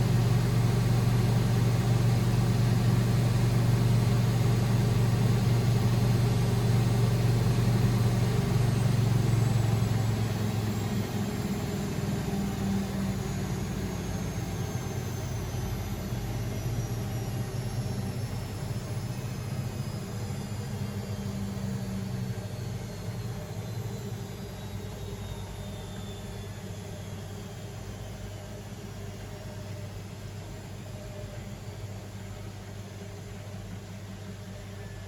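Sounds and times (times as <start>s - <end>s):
washing machine spinning down: 0.0s - 35.0s.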